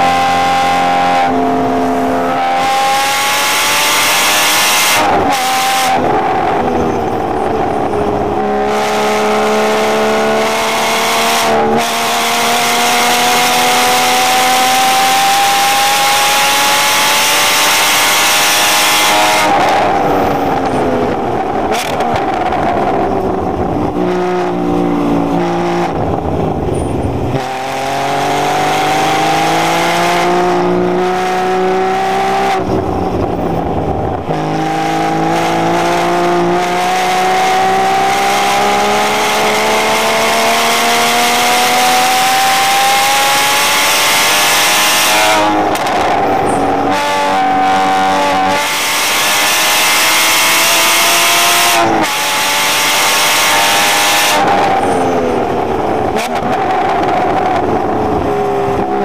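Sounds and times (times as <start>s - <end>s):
sports car engine revving: 0.0s - 59.0s.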